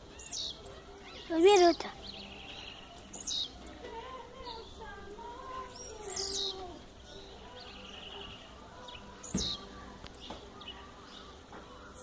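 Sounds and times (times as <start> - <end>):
high bird chirps: 0.0 - 3.7, 5.6 - 12.0.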